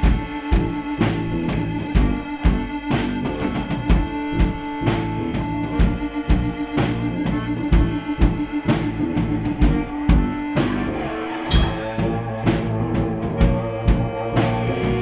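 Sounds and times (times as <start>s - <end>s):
drum kit beat: 0.0s - 15.0s
rock band playing: 0.0s - 15.0s.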